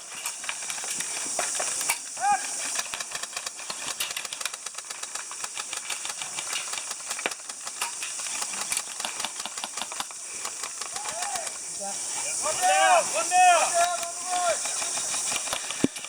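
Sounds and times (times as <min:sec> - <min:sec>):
airsoft guns firing: 0:00.0 - 0:11.8, 0:12.4 - 0:16.0
steady hiss: 0:00.0 - 0:16.0.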